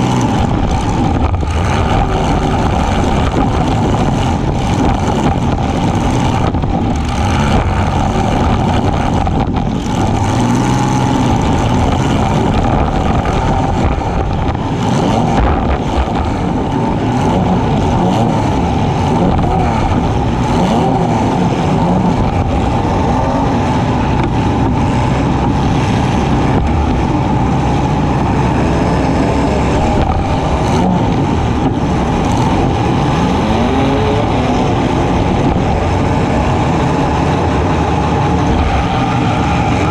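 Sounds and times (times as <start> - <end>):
car engines revving hard: 0.0 - 39.9.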